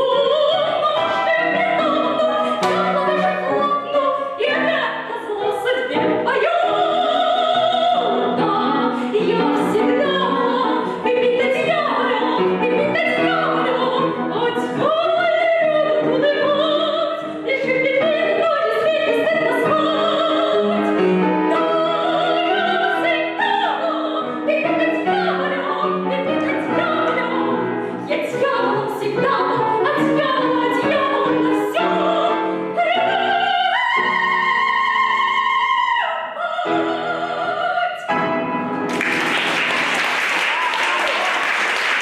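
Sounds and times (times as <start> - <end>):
piano accompaniment: 0.0 - 42.0
soprano singing classical song: 0.0 - 42.0.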